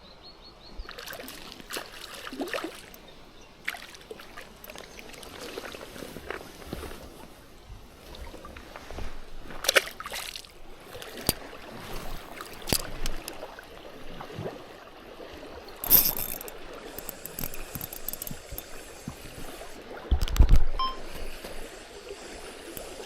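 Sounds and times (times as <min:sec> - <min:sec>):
river water trickling and splashing: 0:00.3 - 0:23.0.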